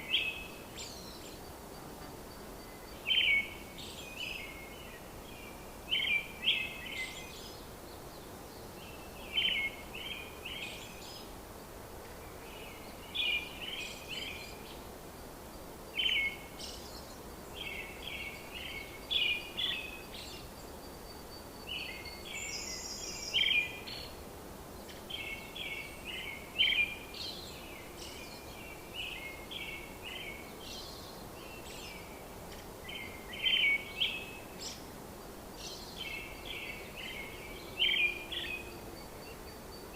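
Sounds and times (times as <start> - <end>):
songbird chirping: 0.0 - 39.9
steady background hiss: 0.0 - 39.9.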